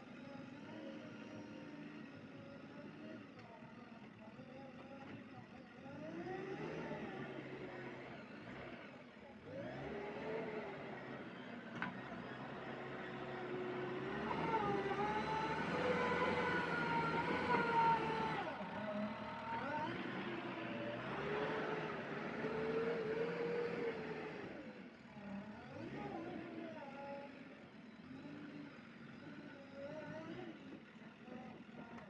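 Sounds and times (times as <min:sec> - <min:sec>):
heavy machinery engines revving: 0:05.8 - 0:32.0.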